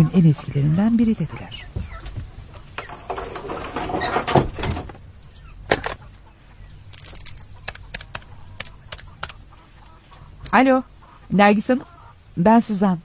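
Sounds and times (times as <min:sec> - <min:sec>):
chickens clucking: 0:00.0 - 0:04.3, 0:05.2 - 0:12.4.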